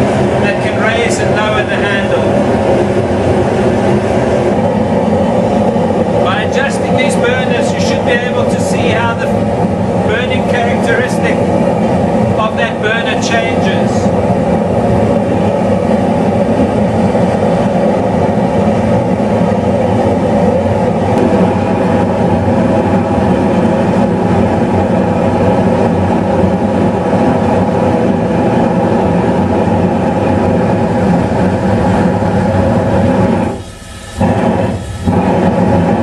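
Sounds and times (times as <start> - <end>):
gas burner rushing: 0.0 - 36.0.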